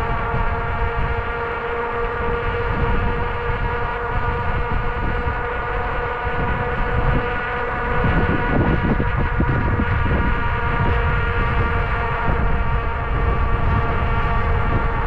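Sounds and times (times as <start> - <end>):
electric bike motor whining: 0.0 - 15.0
wind rumbling on microphone: 0.0 - 15.0.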